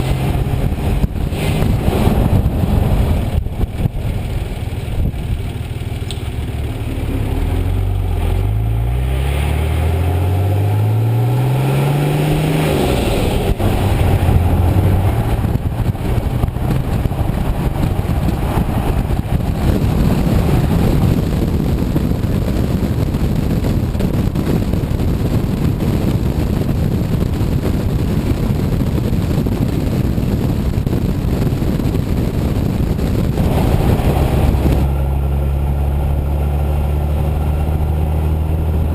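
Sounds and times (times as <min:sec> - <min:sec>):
diesel engine accelerating and droning: 0:00.0 - 0:38.9.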